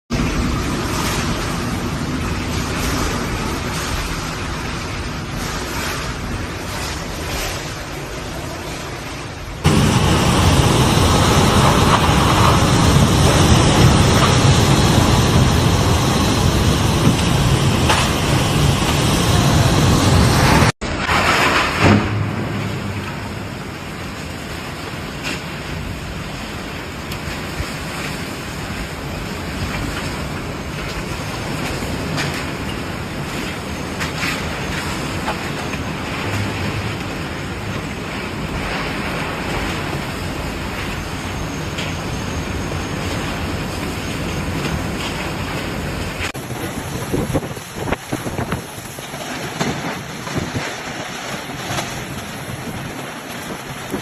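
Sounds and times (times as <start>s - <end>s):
storm wind on microphone: 0.1s - 54.0s.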